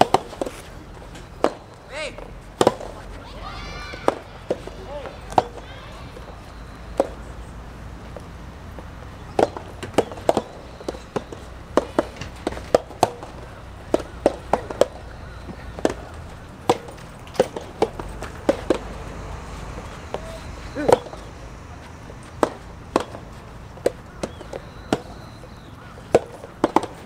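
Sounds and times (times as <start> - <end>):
tennis ball pops: 2.6 - 3.0, 3.9 - 7.2, 8.2 - 19.1, 19.8 - 27.0.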